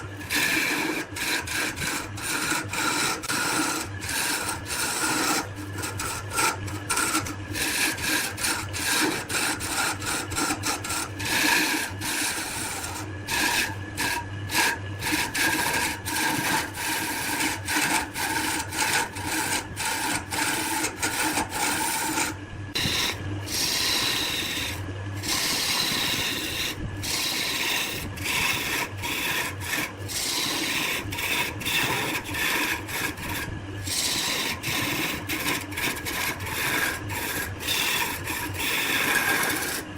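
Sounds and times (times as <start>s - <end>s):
tool scraping spinning wood: 0.0s - 39.9s.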